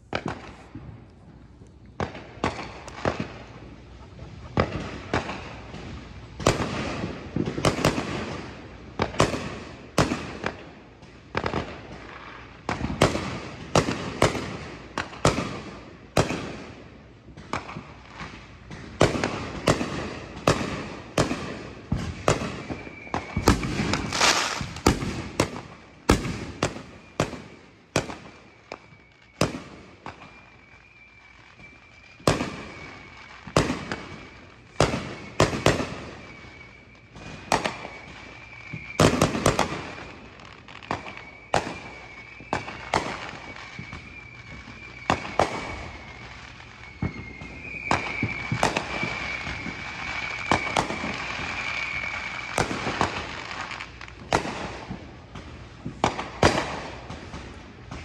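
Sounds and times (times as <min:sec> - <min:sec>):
fireworks crackling bangs: 0:00.0 - 0:58.0
fireworks sharp bangs: 0:00.0 - 0:58.0.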